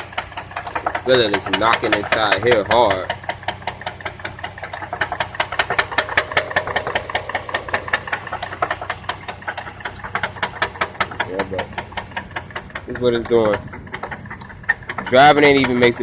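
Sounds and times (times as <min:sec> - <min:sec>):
car engine idling with knock: 0:00.0 - 0:16.0.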